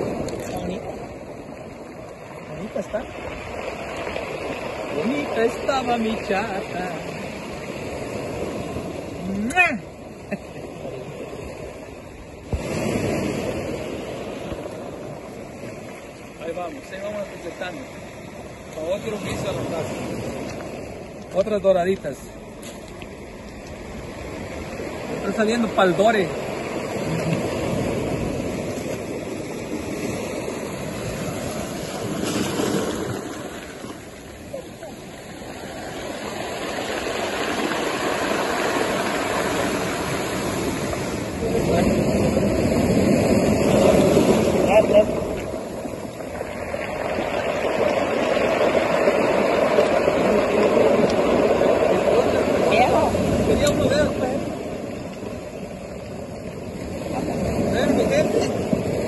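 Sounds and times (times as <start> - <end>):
ocean surf on rocky shore: 0.0 - 59.0
wave surging in: 0.0 - 59.0.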